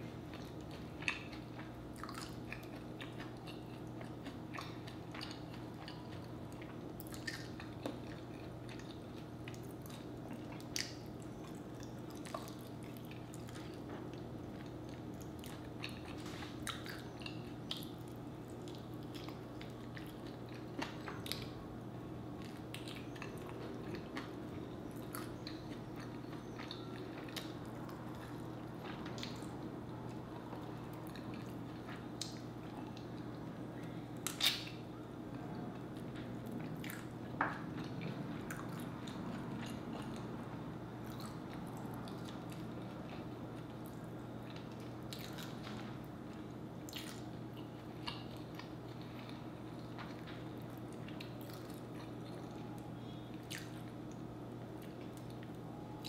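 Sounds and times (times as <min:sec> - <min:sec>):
steady low hum: 0:00.0 - 0:56.0
person chewing chicken wings: 0:00.2 - 0:21.6, 0:22.4 - 0:34.9, 0:35.6 - 0:55.6.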